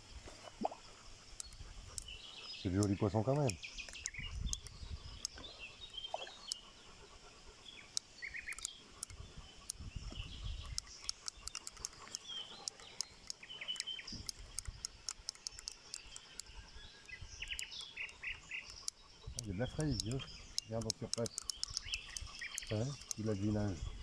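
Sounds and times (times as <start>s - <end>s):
birds chirping: 0.0s - 24.0s
sharp clicks: 0.6s - 5.5s, 6.2s - 6.6s, 7.8s - 23.8s.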